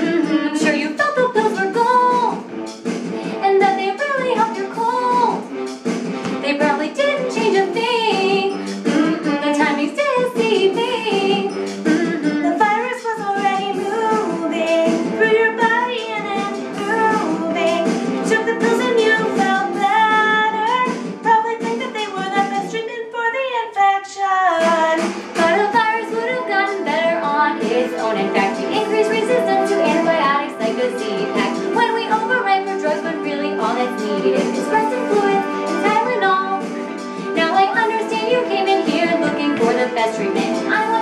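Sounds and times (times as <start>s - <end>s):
women singing: 0.0s - 2.4s, 3.4s - 5.4s, 6.4s - 41.0s
backing track with steady beat: 0.0s - 22.8s, 24.6s - 41.0s.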